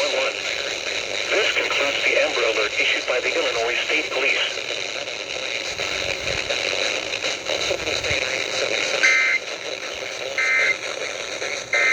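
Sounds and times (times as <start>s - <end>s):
buzzy two-tone data bursts: 0.0s - 11.9s
radio hiss: 0.0s - 11.9s.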